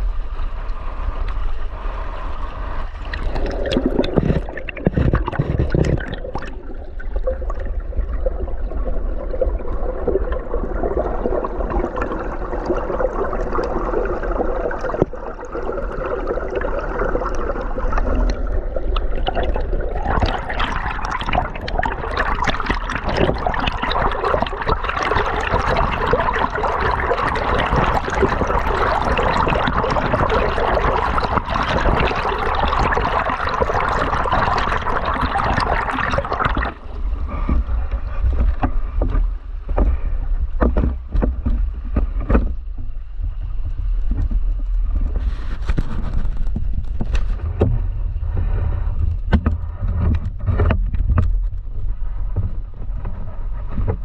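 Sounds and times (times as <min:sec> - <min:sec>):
steady low rumble: 0:00.0 - 0:31.5, 0:36.7 - 0:54.0.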